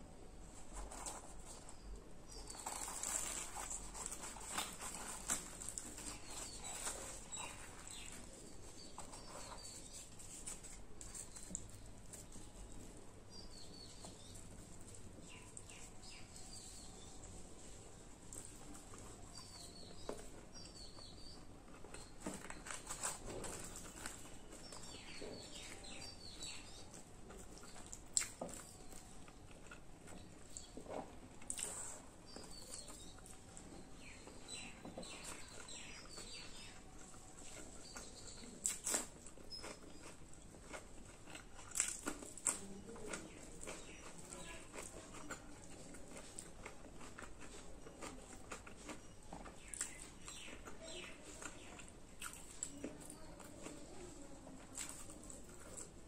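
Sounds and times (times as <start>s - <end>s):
fried bread being torn and chewed: 0.6s - 17.4s, 18.2s - 56.0s.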